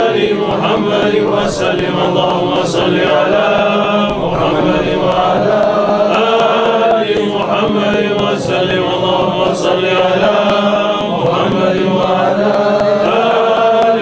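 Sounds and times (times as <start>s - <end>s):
men chanting prayers: 0.0s - 14.0s.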